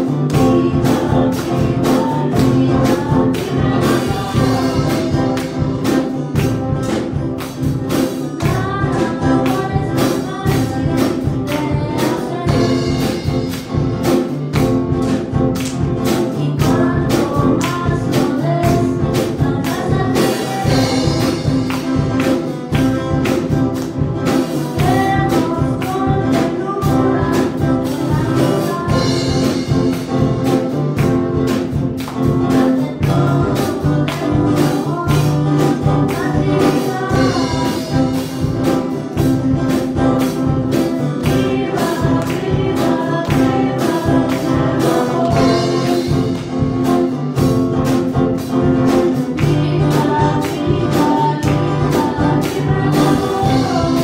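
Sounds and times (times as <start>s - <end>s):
girl singing into a microphone: 0.0s - 7.0s, 7.8s - 13.5s, 15.8s - 22.2s, 22.8s - 30.3s, 32.1s - 46.6s, 48.6s - 54.0s
instrumental accompaniment with beat: 0.0s - 54.0s.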